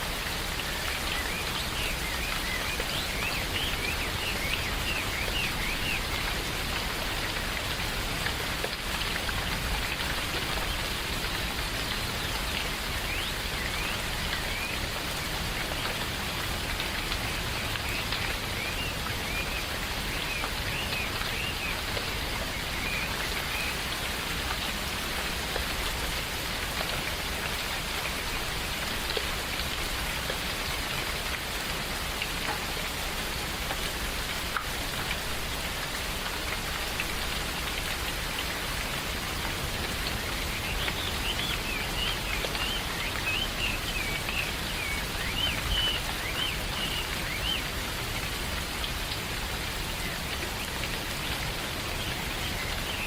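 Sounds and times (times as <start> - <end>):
rain on foliage: 0.0 - 53.0.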